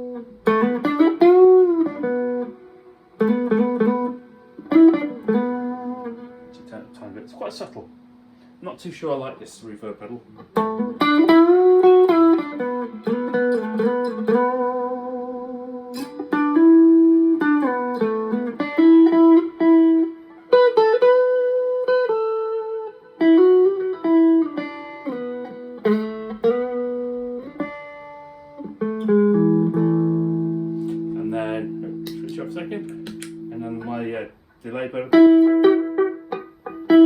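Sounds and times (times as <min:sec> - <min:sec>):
electric guitar with reverb: 0:00.0 - 0:08.7, 0:10.3 - 0:37.0.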